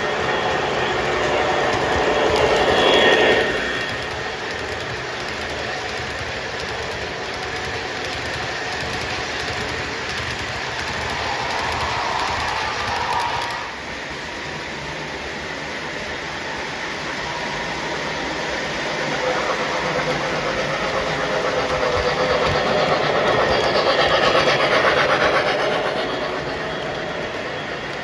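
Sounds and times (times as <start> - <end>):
model train wheels rumbling: 0.0 - 28.0.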